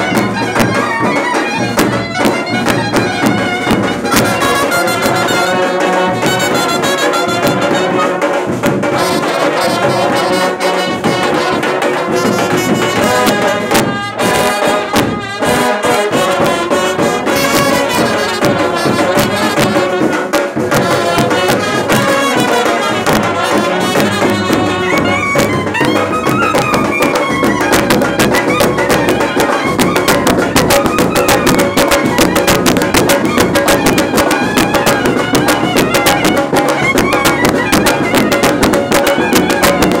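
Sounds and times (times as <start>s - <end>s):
brass instruments playing melody: 0.0s - 40.0s
steady drumming: 0.0s - 40.0s.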